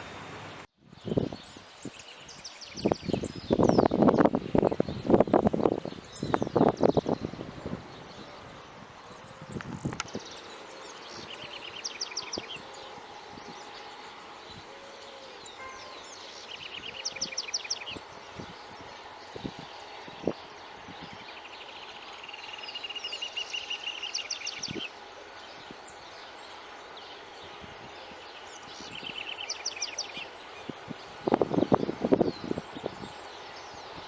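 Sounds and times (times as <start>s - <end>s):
songbird singing with trills: 1.0s - 34.0s.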